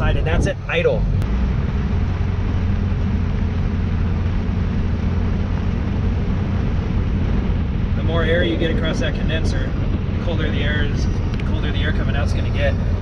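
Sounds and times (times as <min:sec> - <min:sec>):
air rushing from vents: 0:00.0 - 0:13.0
diesel engine idling: 0:00.0 - 0:13.0.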